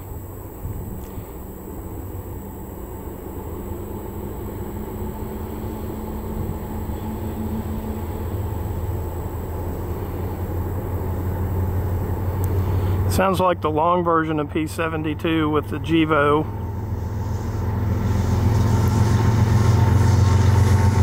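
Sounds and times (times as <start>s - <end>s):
diesel locomotive engines humming: 0.0s - 21.0s.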